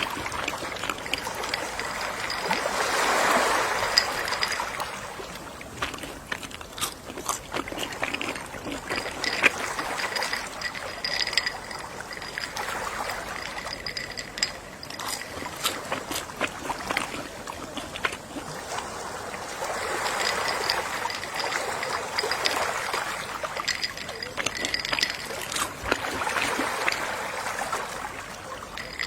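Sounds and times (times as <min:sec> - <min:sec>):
sea waves washing in: 0:00.0 - 0:29.0
small water splashes: 0:00.0 - 0:29.0.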